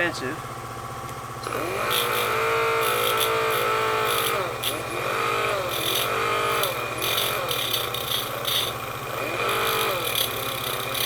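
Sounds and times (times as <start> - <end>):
die grinder whining: 1.4 - 11.0.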